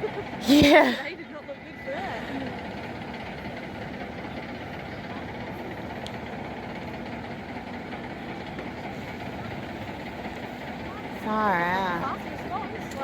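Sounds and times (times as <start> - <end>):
fire truck engine idling: 0.0 - 13.0.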